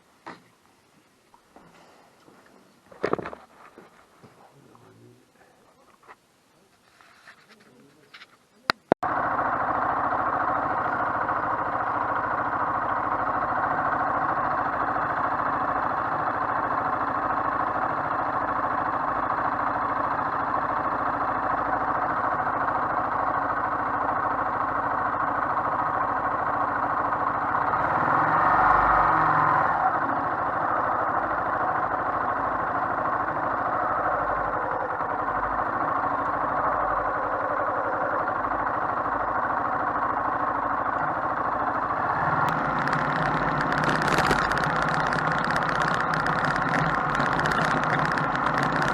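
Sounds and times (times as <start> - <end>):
motorcycle engine running: 9.0 - 48.9.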